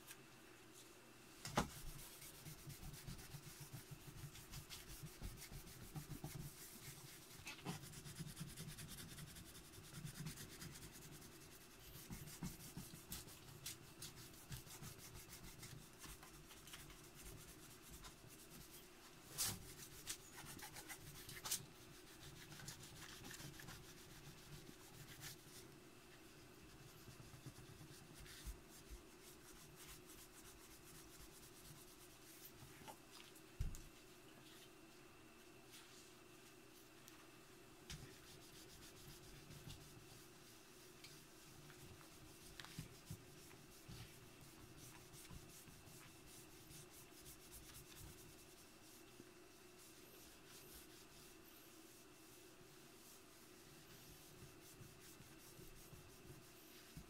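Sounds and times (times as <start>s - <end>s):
cloth rubbing on metal: 1.6s - 25.6s, 26.6s - 32.6s, 38.1s - 57.0s.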